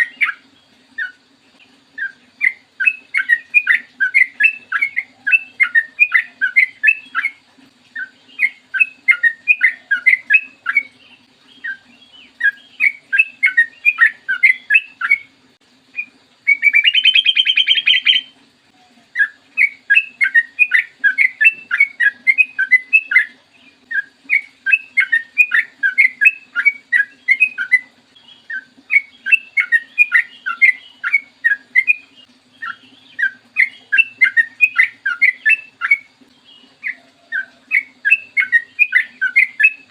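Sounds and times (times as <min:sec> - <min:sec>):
bird chattering song: 0:00.0 - 0:15.3, 0:16.0 - 0:18.4, 0:19.2 - 0:39.9
faint low hum: 0:00.0 - 0:39.9.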